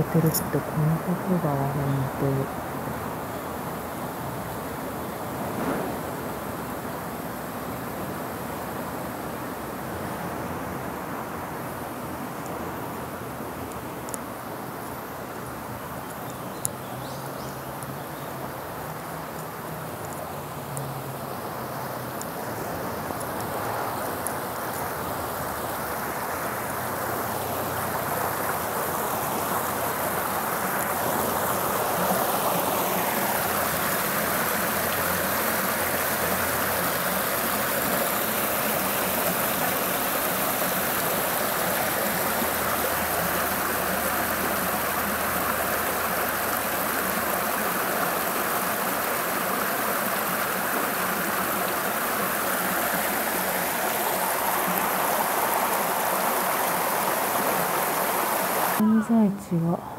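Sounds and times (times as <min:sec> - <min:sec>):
forest stream rushing: 0:00.0 - 0:59.7.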